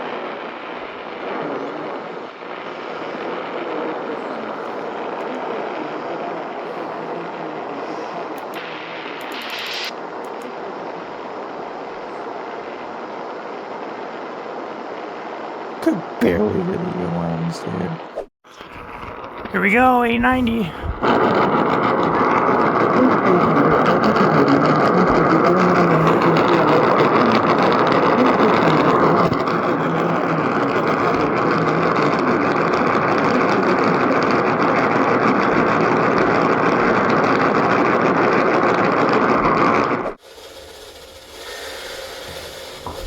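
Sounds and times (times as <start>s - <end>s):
radio static hiss: 0.0s - 43.0s.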